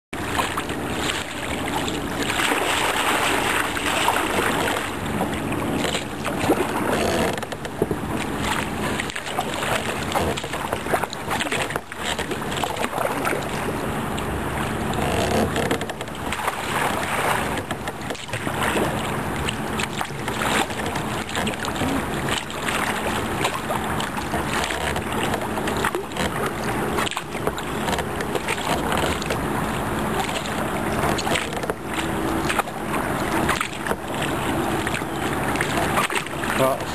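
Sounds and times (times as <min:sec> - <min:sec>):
river water rushing: 0:00.2 - 0:07.5, 0:08.1 - 0:36.9.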